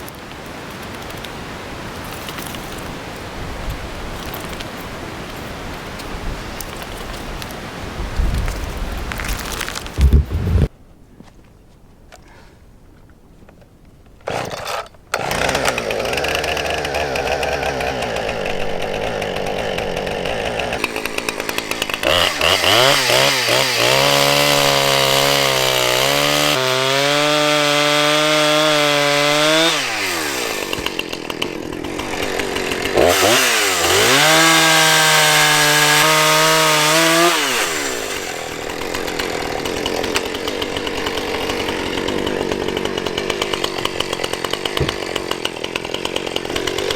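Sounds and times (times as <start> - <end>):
chainsaw cutting log: 0.0 - 7.7, 8.4 - 10.7, 14.2 - 46.9.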